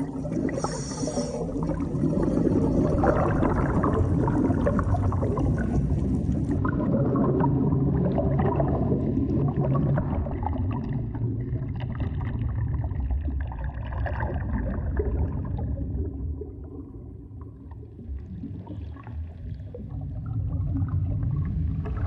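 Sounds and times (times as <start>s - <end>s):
fine underwater crackling: 0.0s - 22.0s
low rumble of moving water: 0.0s - 22.0s.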